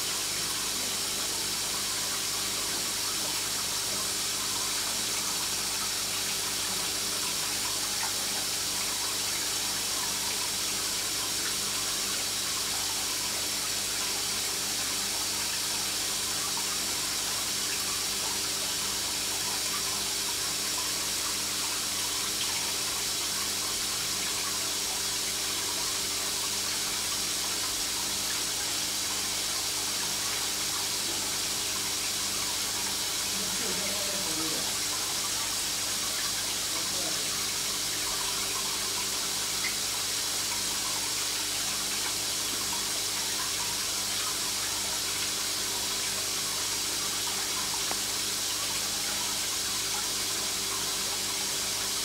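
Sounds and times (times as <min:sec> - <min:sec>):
water rushing: 0:00.0 - 0:52.0.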